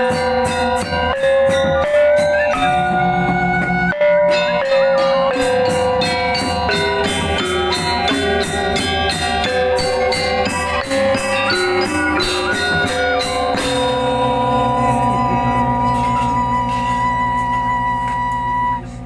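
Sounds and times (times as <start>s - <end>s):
gamelan music: 0.0s - 19.0s.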